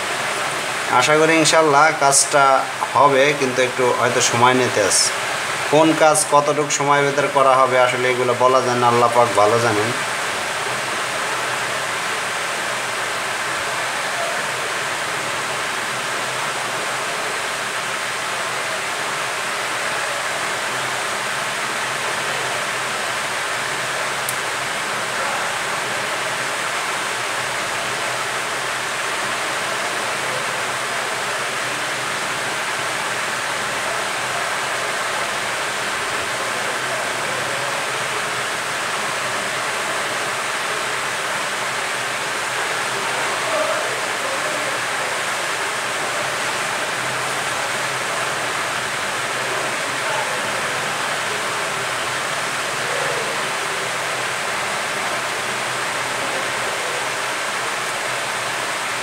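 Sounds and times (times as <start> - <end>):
hot-air blower hissing: 0.0 - 59.0.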